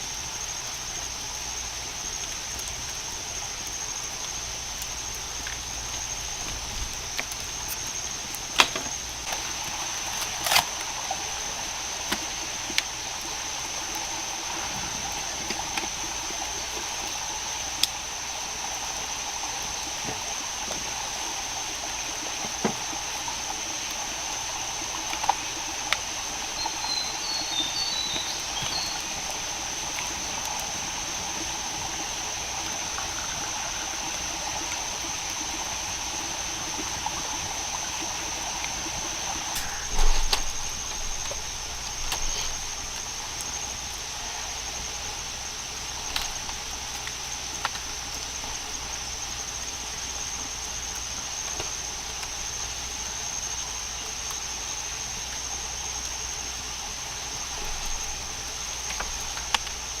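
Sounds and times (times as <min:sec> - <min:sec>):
high-pitched insect drone: 0:00.0 - 1:00.0.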